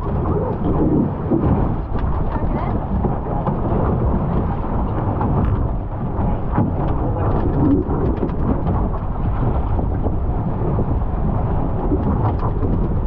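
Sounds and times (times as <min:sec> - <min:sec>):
water rushing against hull: 0:00.0 - 0:13.0
wind rumbling on microphone: 0:00.0 - 0:13.0.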